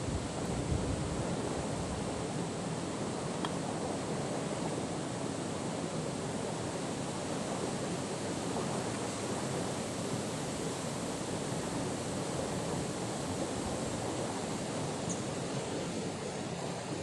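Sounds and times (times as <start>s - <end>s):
river water rushing: 0.1s - 17.0s.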